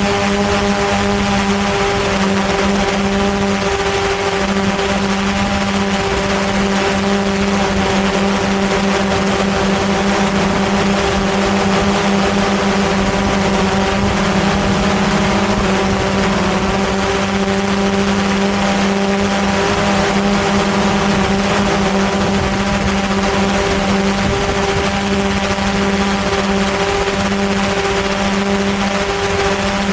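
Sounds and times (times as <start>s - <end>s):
drone propellers buzzing: 0.0s - 29.9s.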